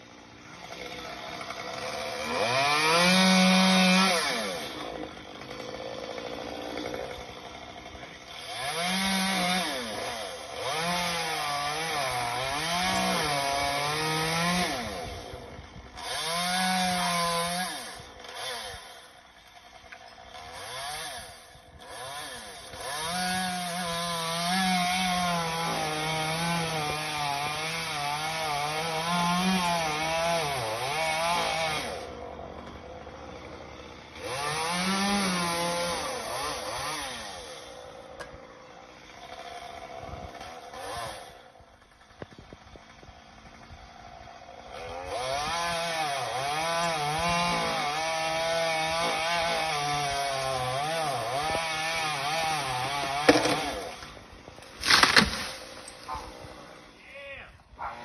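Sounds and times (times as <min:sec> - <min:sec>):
chainsaw cutting wood: 0:00.0 - 0:57.2.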